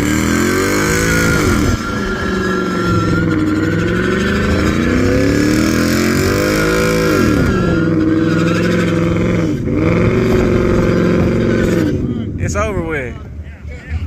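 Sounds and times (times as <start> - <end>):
tyres squealing: 0.0 - 11.9
car engine revving hard: 0.0 - 12.3.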